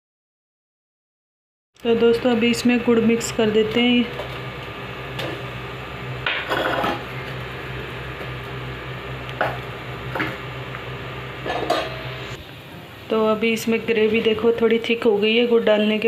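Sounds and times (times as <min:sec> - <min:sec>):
steady low hum: 0:01.8 - 0:16.0.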